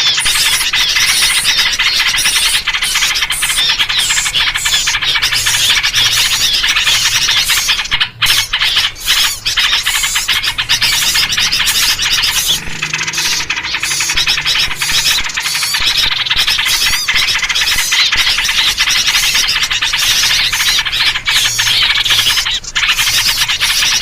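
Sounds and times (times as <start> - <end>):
lower throaty bird call: 0.0 - 24.0
small songbirds chattering: 0.0 - 24.0.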